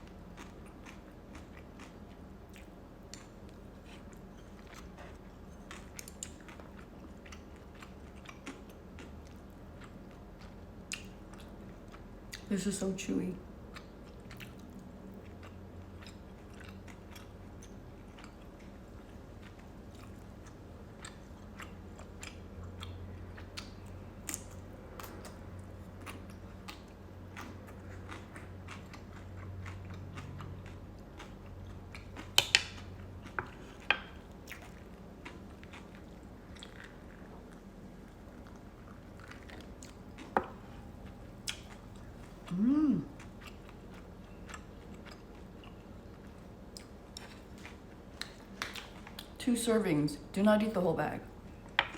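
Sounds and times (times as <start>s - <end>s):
person chewing: 0.0s - 12.5s, 13.7s - 49.3s.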